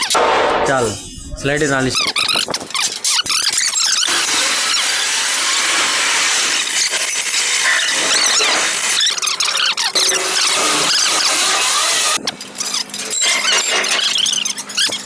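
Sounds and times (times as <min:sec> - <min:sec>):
harsh hissing metalworking noise: 0:00.0 - 0:15.0.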